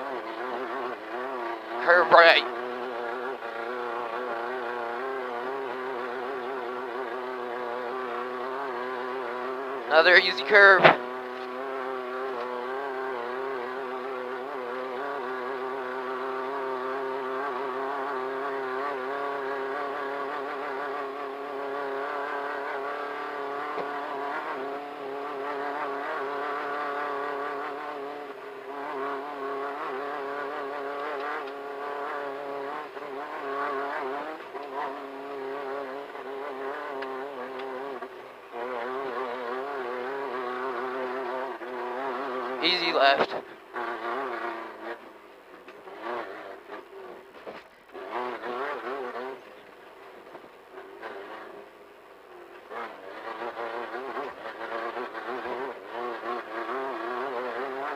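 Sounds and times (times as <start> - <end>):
race car engine running hard: 0.0 - 57.9.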